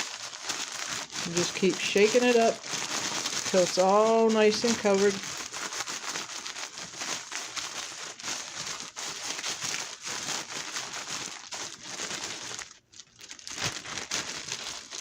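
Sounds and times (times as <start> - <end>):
breadcrumbs rustling in a bag: 0.0 - 15.0.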